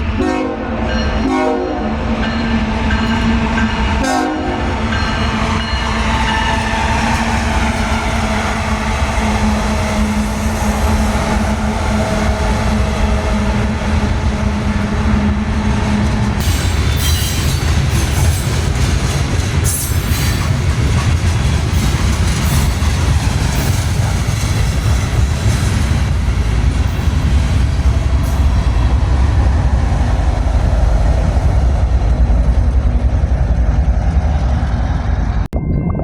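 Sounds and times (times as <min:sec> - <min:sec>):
freight train rumbling past: 0:00.0 - 0:35.8.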